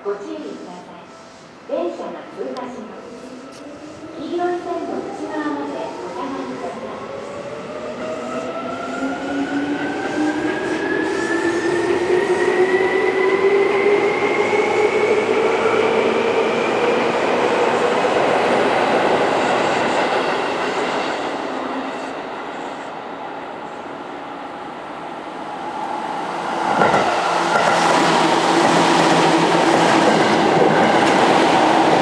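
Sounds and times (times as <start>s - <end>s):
train wheels rumbling: 2.8s - 32.0s.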